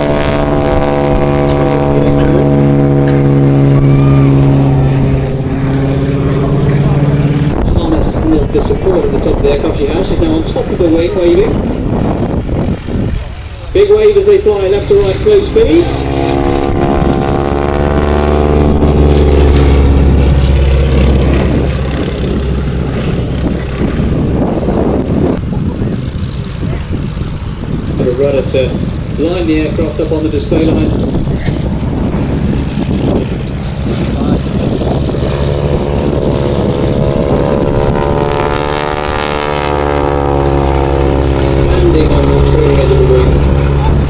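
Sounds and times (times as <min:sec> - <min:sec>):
propeller plane passing: 0:00.0 - 0:44.0.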